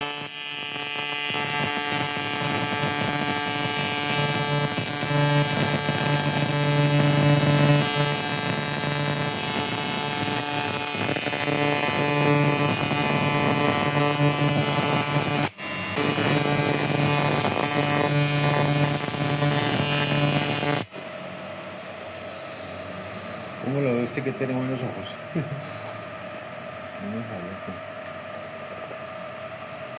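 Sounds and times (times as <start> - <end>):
electric welding arc buzzing: 0.0 - 25.0.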